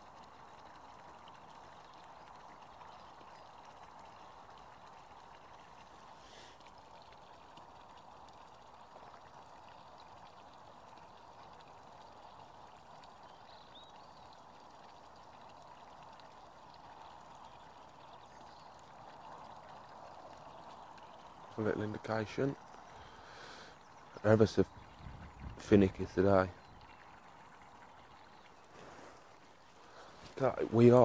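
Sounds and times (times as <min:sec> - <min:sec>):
faint rain patter: 0:00.0 - 0:31.0.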